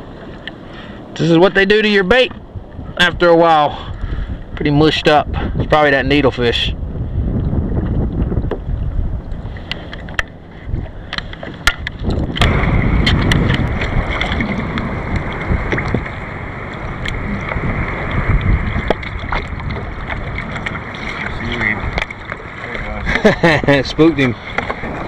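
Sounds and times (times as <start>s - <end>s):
water sloshing against kayak: 0.0s - 5.7s, 6.8s - 25.0s
wind on microphone: 0.0s - 25.0s.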